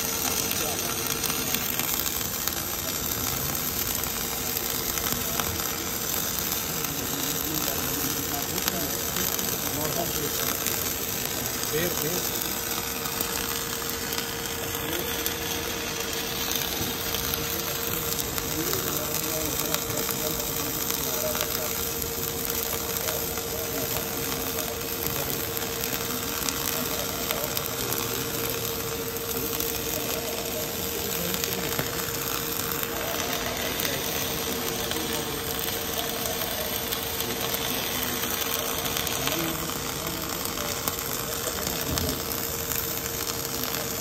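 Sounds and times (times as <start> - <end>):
welding arc crackling: 0.0 - 44.0.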